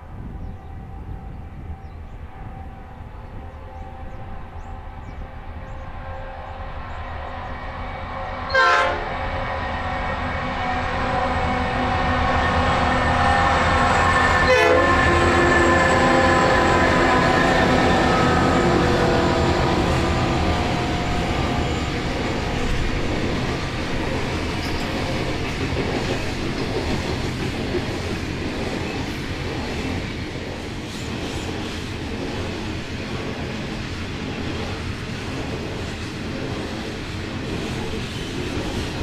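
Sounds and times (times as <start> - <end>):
diesel freight train passing: 0.0 - 39.0.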